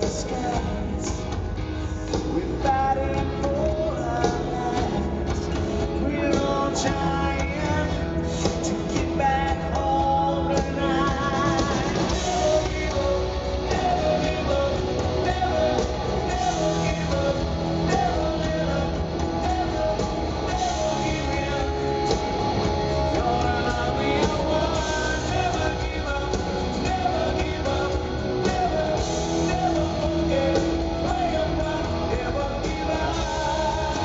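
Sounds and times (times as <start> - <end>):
person singing: 0.0 - 34.0
rock band playing: 0.0 - 34.0.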